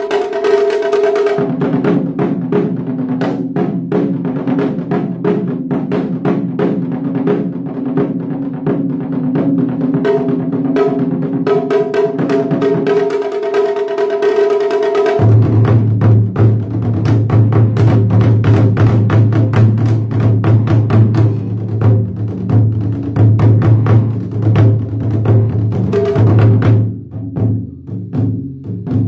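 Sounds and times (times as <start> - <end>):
taiko drums: 0.0 - 29.0.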